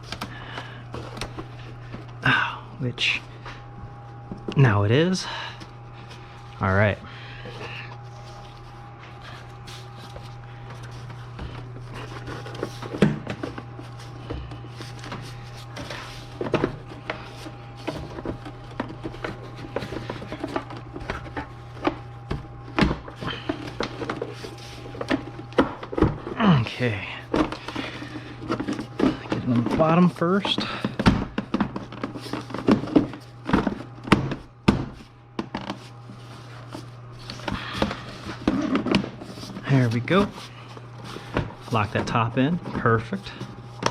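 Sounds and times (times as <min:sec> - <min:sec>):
steady low hum: 0:00.0 - 0:43.9
plastic rubbing: 0:07.5 - 0:43.9.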